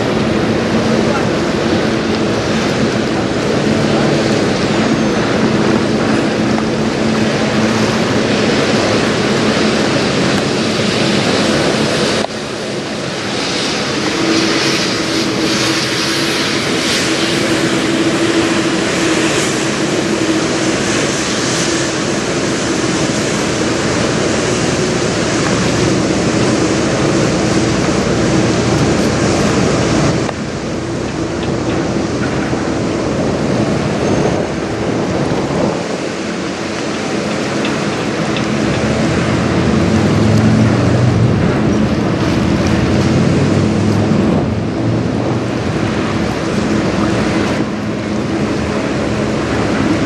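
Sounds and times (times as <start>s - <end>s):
river water washing: 0.0s - 50.0s
ship engine drone: 0.0s - 50.0s
wind noise: 0.0s - 50.0s.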